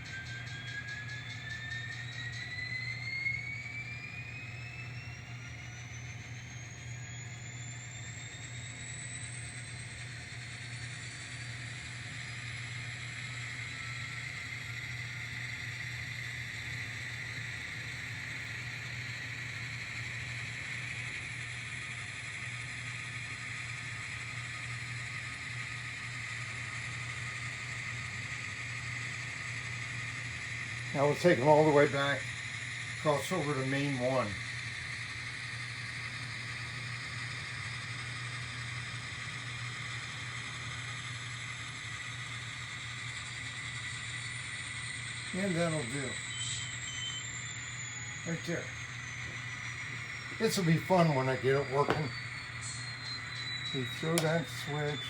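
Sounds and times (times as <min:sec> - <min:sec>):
constant low hum: 0:00.0 - 0:55.0
model train whirring: 0:00.0 - 0:55.0.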